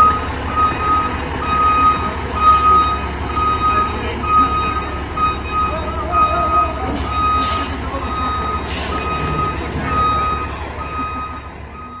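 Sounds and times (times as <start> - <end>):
back-up alarm beeps: 0.0 - 12.0
truck engine running: 0.0 - 12.0.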